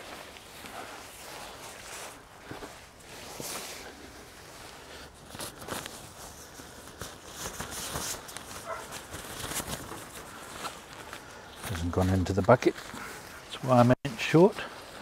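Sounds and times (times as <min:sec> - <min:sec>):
tent fabric rustling: 0:00.0 - 0:15.0.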